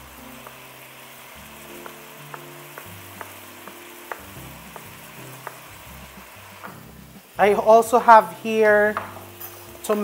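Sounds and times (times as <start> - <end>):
chicken sizzling in a wok: 0.0 - 10.0.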